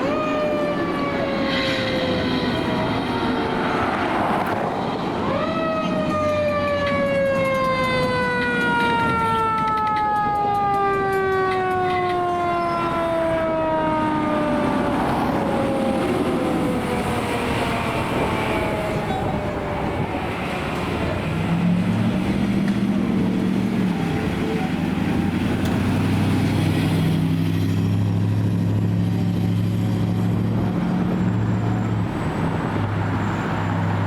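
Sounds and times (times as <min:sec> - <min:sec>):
fire truck siren wailing: 0:00.0 - 0:34.0
road noise: 0:00.0 - 0:34.0
truck engine: 0:00.0 - 0:34.0.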